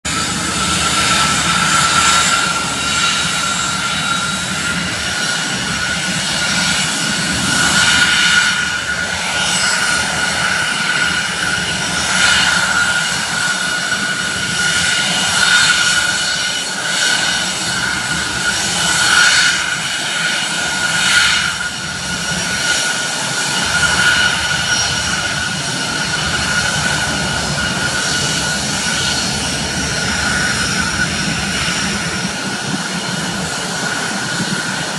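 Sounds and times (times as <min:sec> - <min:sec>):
jet engines whining: 0:00.0 - 0:34.9.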